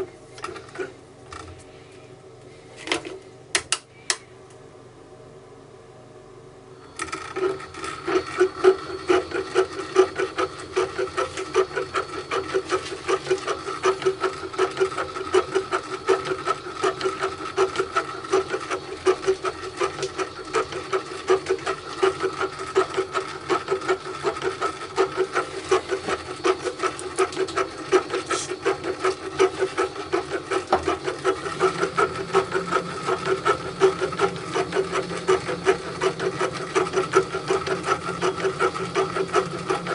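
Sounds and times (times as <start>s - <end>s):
drill-mill machine clattering: 7.0s - 39.9s.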